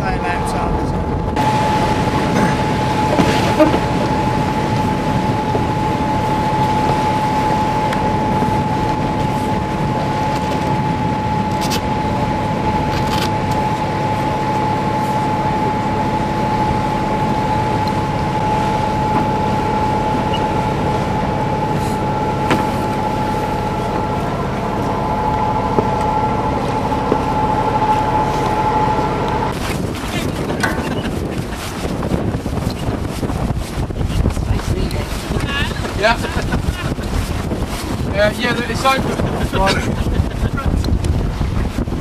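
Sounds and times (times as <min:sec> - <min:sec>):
boat engine droning: 0:00.0 - 0:42.0
high whine: 0:00.0 - 0:42.0.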